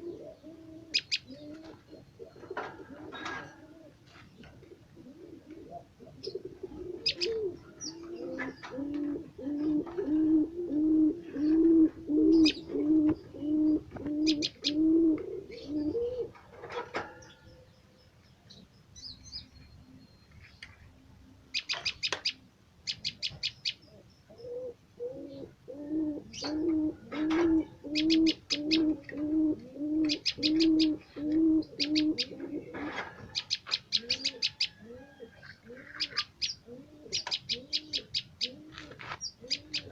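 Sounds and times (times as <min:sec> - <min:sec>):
dove cooing: 0:00.0 - 0:17.7, 0:21.2 - 0:39.9.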